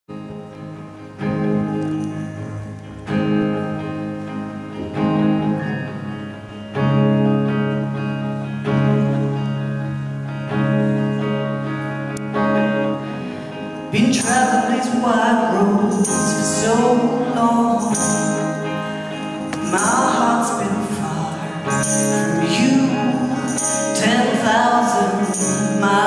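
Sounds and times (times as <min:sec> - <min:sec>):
guitar playing slow chords: 0:00.1 - 0:26.0.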